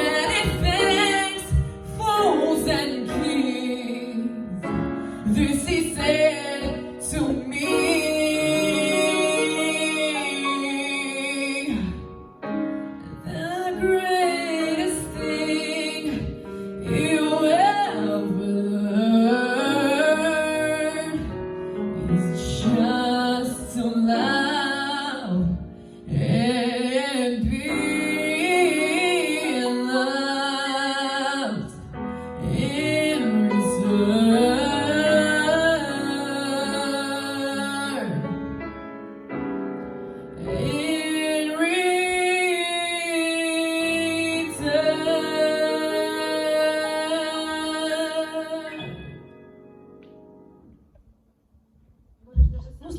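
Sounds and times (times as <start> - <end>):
musical accompaniment: 0.0 - 50.9.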